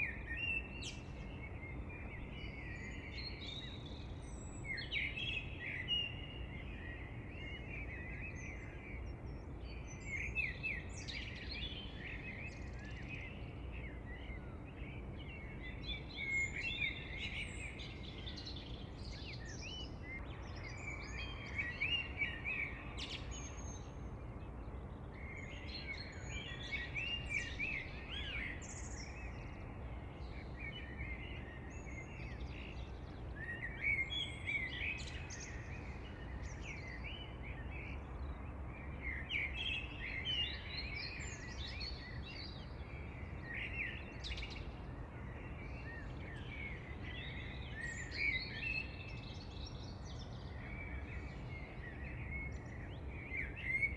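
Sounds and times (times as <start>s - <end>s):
birds singing and chirping: 0.0s - 53.9s
low outdoor background hiss: 0.0s - 53.9s.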